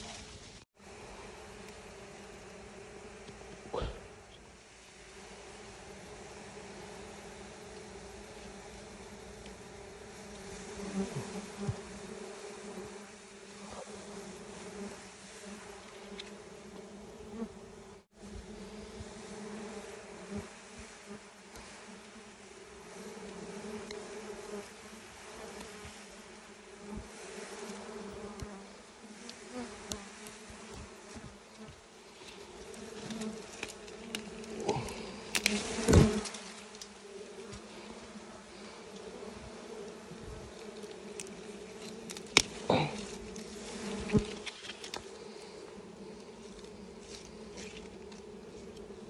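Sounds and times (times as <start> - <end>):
honeybees buzzing: 0.0 - 49.0.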